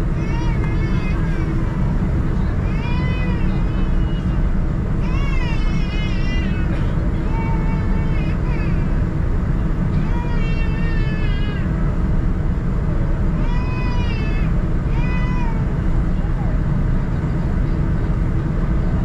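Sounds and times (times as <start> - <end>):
airplane cabin low rumble: 0.0 - 19.0.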